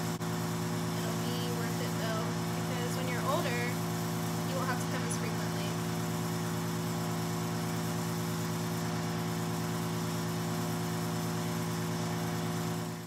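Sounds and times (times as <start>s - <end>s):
vacuum pump humming and pulsing: 0.0s - 13.0s.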